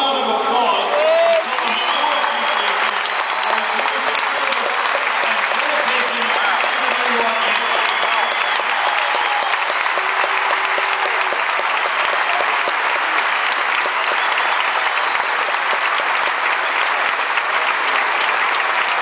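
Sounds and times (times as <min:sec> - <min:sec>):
stadium crowd applauding: 0:00.0 - 0:19.0.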